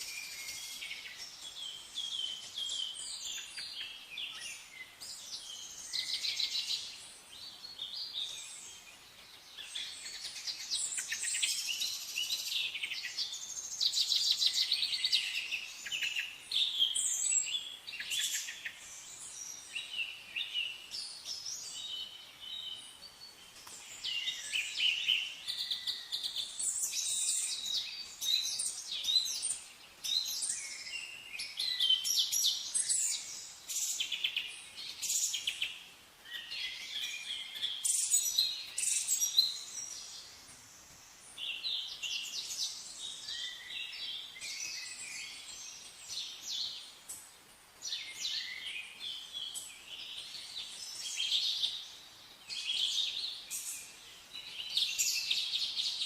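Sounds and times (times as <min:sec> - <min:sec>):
faint background hiss: 0:00.0 - 0:56.0
songbirds chirping and trilling: 0:00.0 - 0:56.0.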